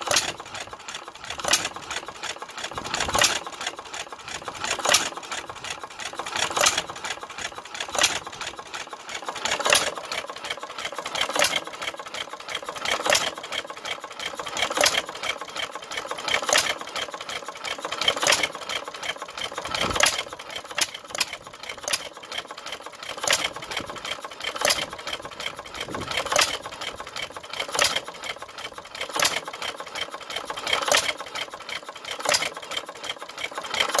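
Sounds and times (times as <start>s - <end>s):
fast mechanical clatter: 0.0s - 34.0s.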